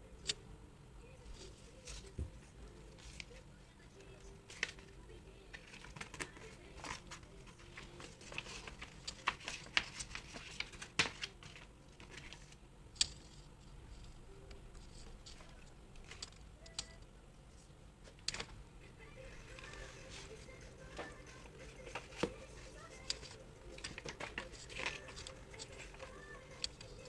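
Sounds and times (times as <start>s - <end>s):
paper rustling: 1.2s - 16.4s, 17.5s - 27.0s.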